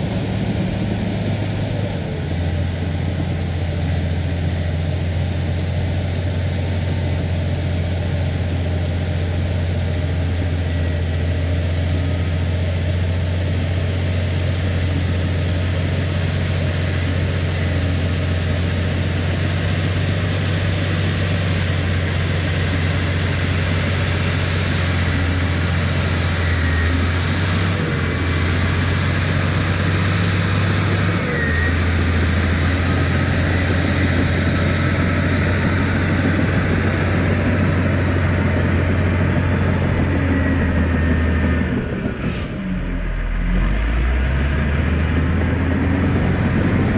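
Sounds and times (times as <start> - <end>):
heavy machine engine running: 0.0 - 46.9.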